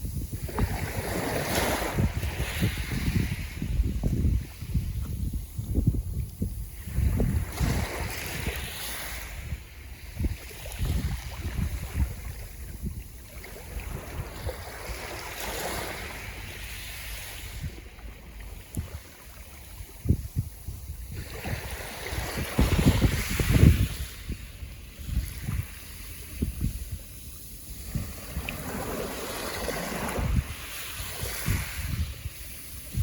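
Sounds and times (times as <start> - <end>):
sea waves washing in: 0.0 - 5.0, 6.6 - 33.0
wind buffeting microphone: 0.0 - 33.0.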